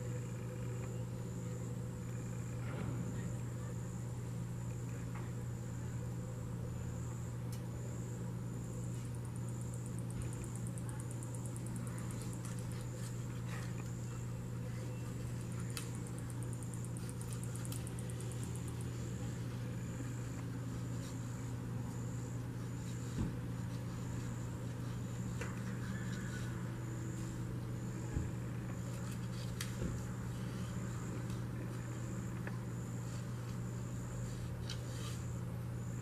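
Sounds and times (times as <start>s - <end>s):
constant low hum: 0.0s - 36.0s
insects chirping: 0.0s - 36.0s.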